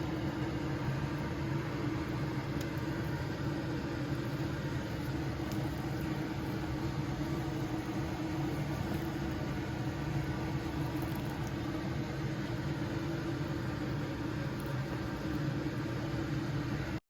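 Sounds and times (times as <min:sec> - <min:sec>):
electric fan hum: 0:00.0 - 0:17.0.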